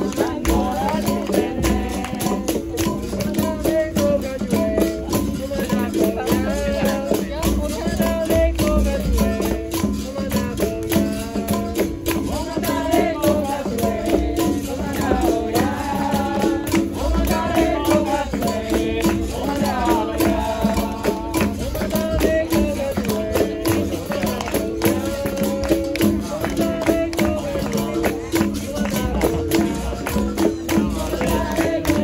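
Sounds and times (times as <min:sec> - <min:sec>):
voices singing: 0:00.0 - 0:32.0.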